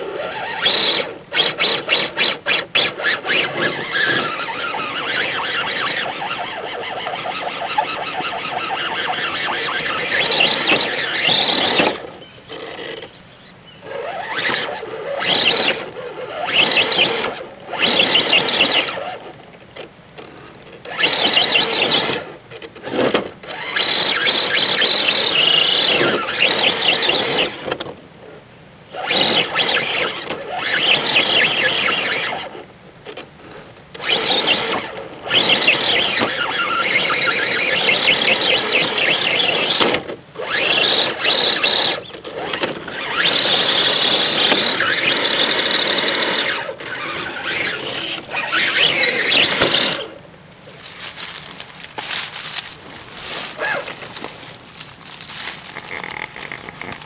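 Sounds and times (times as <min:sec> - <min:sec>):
electric motor and gears whining: 0:00.0 - 0:57.0.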